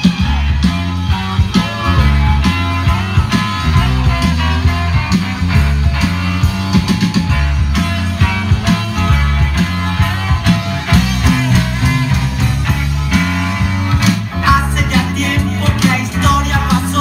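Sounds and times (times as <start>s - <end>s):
heavy bass line: 0.0s - 17.0s
loud dance music: 0.0s - 17.0s.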